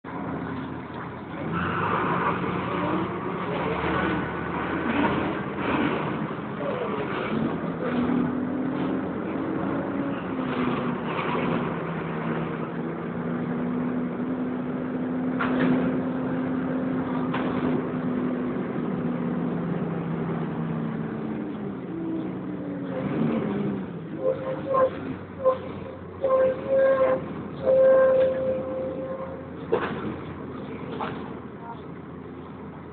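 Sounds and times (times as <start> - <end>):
bus engine drone: 0.0 - 32.9.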